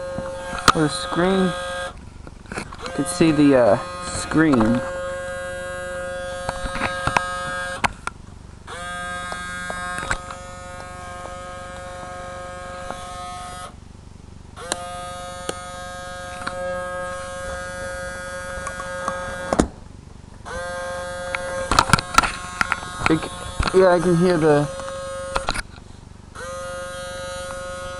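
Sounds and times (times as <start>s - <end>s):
camcorder motor whirring: 0.0s - 13.8s, 14.5s - 19.8s, 20.4s - 27.9s.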